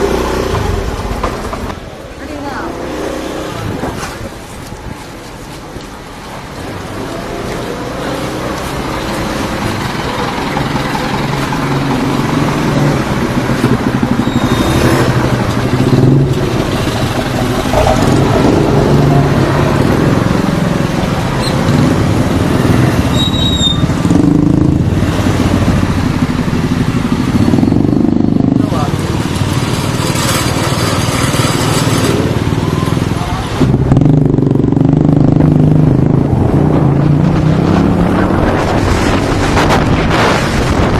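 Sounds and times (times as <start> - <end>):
wind and road noise: 0.0 - 40.9
vehicle engine running: 6.8 - 40.9.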